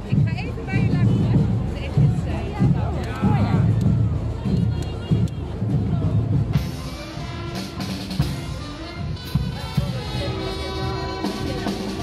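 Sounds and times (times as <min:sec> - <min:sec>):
carnival band music: 0:00.0 - 0:12.0
drum beats: 0:00.0 - 0:12.0.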